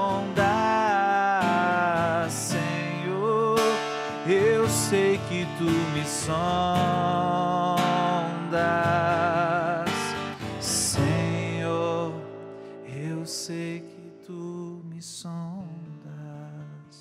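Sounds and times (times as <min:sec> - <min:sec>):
man singing: 0:00.0 - 0:17.0
strummed acoustic guitar: 0:00.0 - 0:17.0.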